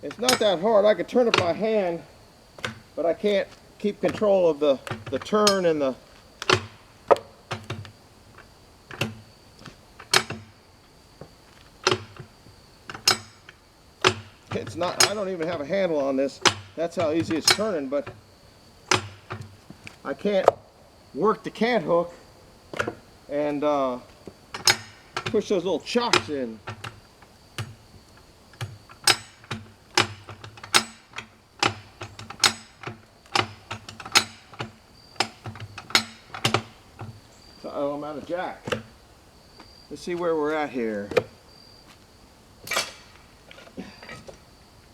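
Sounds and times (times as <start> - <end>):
jack clanking: 0.0 - 20.6, 21.2 - 39.0, 42.6 - 44.5.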